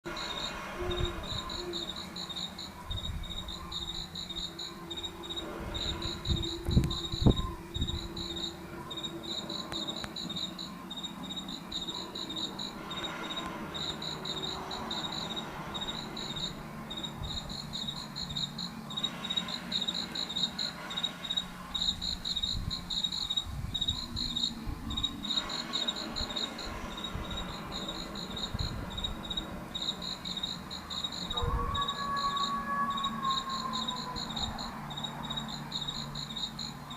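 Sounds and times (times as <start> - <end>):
crickets chirping: 0.0 - 36.9.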